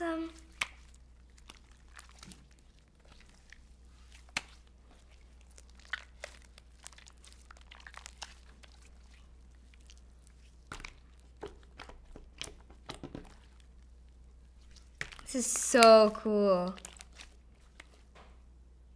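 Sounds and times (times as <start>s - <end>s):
slime crackling and squelching: 0.0s - 18.2s.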